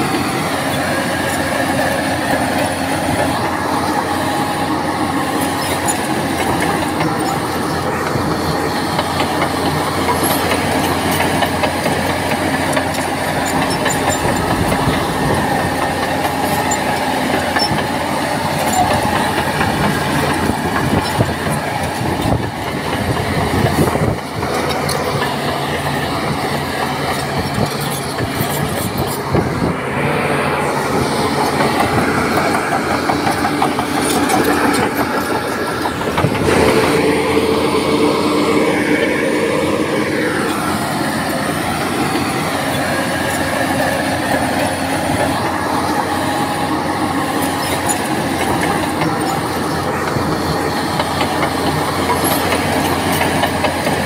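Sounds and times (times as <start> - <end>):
bulldozer diesel engine running: 0.0 - 54.0
steel tracks clattering: 0.0 - 54.0.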